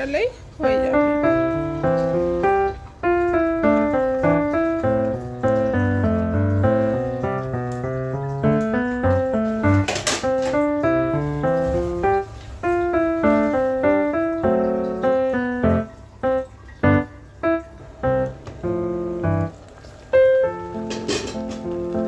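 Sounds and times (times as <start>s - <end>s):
piano music: 0.5s - 22.0s.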